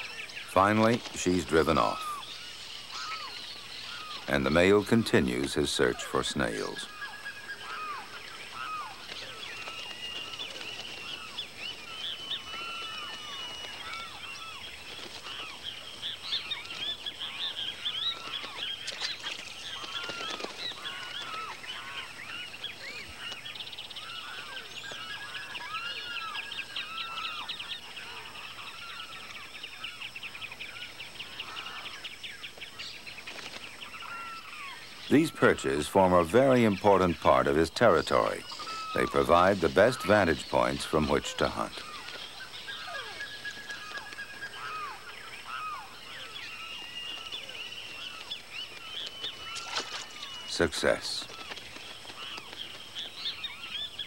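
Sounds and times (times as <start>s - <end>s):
chorus of birds calling: 0.0s - 54.0s.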